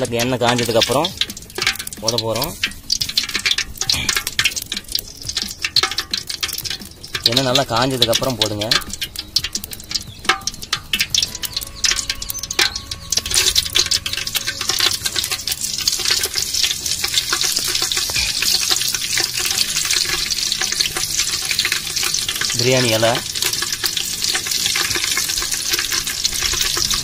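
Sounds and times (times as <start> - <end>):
spices dropping clicks: 0.0 - 27.0
spices sizzling in oil: 0.0 - 27.0.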